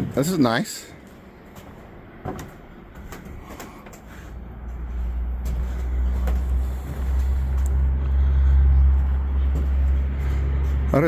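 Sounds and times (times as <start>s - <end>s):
passing vehicle engine rumble: 1.3s - 11.0s.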